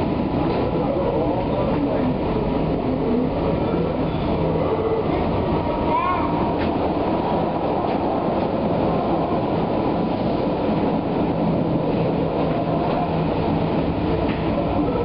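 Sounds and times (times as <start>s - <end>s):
rumble of wheels on rail: 0.0s - 15.0s.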